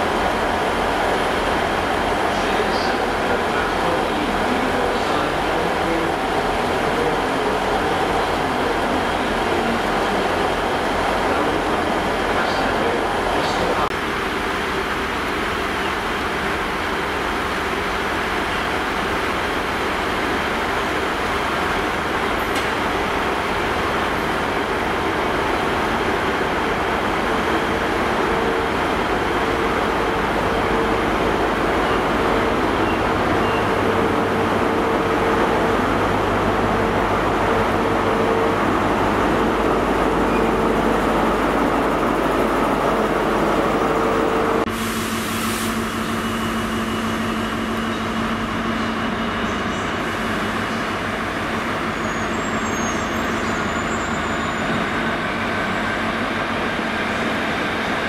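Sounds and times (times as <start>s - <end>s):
diesel train engine running: 0.0s - 58.0s
freight train rolling past: 0.0s - 58.0s.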